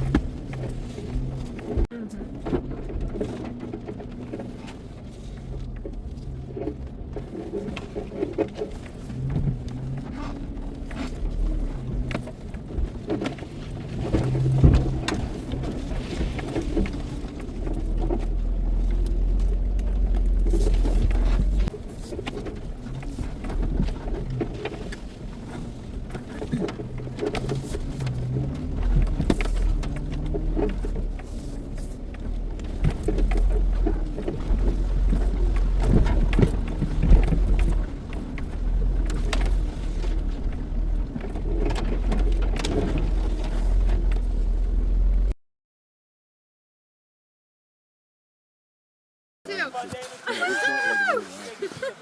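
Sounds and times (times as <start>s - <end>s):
knocks and clunks: 0.0s - 45.3s
off-road vehicle engine: 0.0s - 45.4s.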